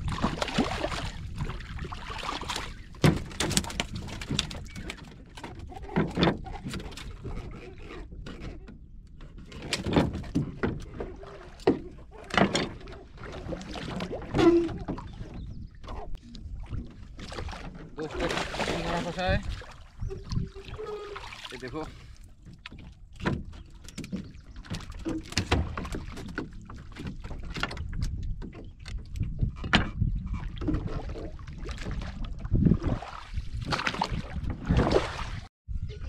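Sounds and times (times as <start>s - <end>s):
water against hull: 0.0s - 36.0s.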